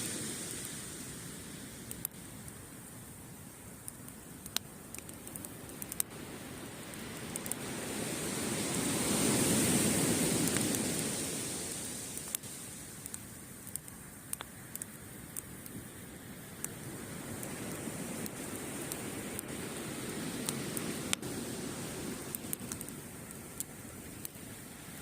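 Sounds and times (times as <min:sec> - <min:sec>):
campfire crackling and popping: 0:00.0 - 0:25.0
wave washing on beach: 0:00.0 - 0:25.0.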